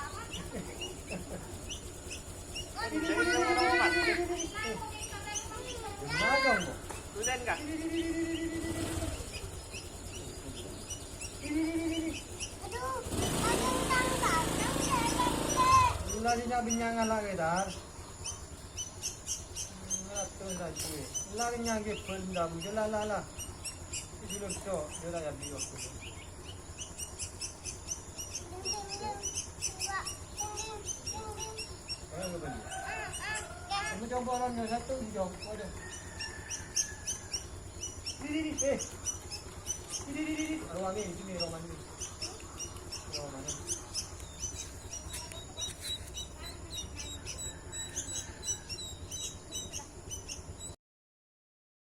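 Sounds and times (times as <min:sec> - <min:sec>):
bird chicks peeping: 0:00.0 - 0:50.8
low steady rumble: 0:00.0 - 0:50.8.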